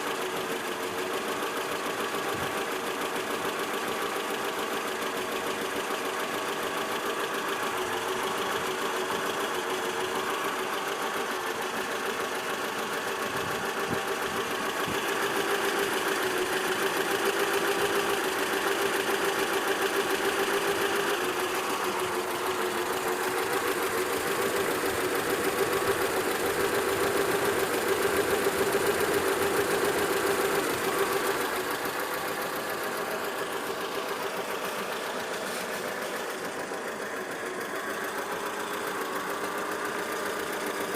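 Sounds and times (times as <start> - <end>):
petrol engine knocking: 0.0 - 40.9.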